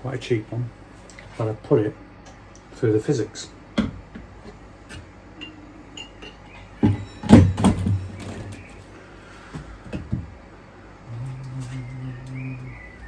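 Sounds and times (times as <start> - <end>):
dispenser low hum: 0.0 - 13.0.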